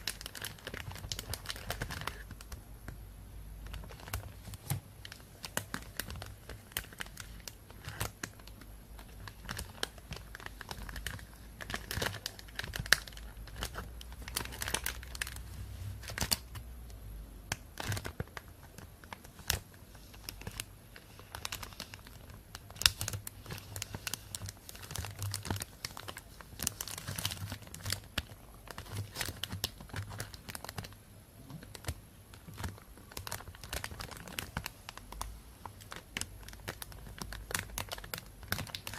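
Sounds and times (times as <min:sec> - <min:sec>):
plastic bag crinkling: 0:00.0 - 0:02.6, 0:03.6 - 0:16.6, 0:17.5 - 0:38.9.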